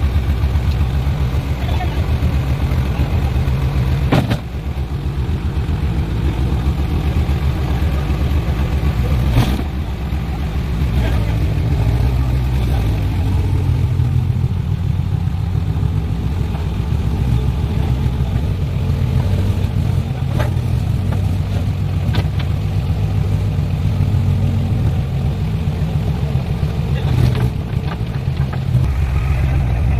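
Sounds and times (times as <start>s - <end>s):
diesel engine rumbling: 0.0s - 29.9s.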